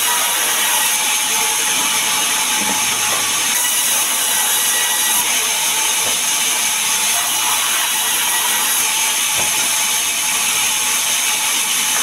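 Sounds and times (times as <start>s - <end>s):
band saw cutting log: 0.0s - 12.0s.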